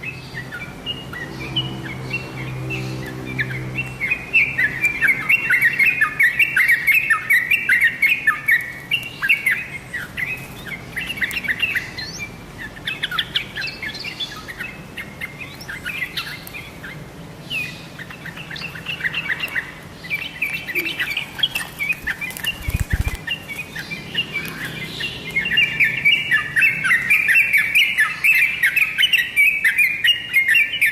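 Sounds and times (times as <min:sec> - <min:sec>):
bulbul chattering song: 0:00.0 - 0:30.9.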